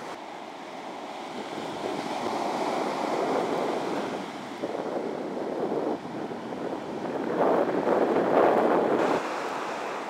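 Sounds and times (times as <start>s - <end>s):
surf washing up beach: 0.0s - 10.0s.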